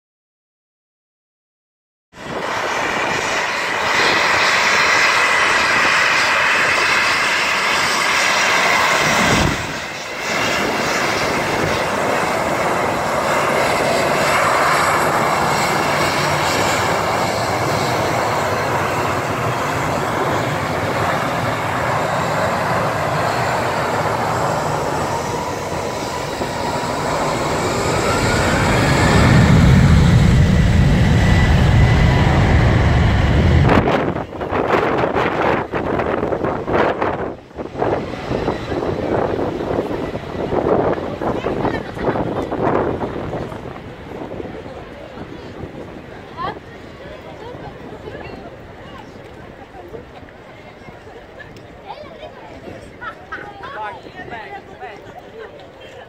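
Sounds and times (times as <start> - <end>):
deep rumble of jet takeoff: 2.1 - 56.0
jet engines at high power: 2.1 - 56.0
rising jet engine whine: 2.2 - 56.0.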